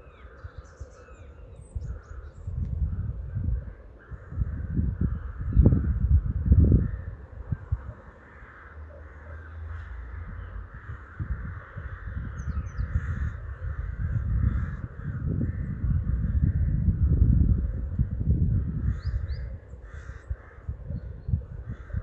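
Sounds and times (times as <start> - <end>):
birds calling: 0.0 - 22.0
wind buffeting microphone: 0.0 - 22.0.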